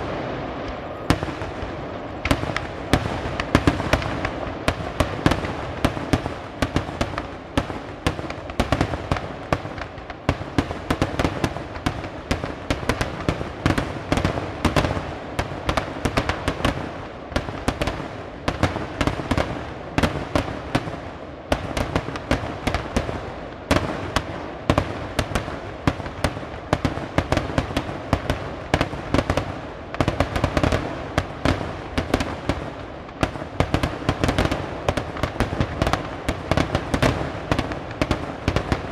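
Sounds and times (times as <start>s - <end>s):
fireworks banging: 0.0s - 38.9s.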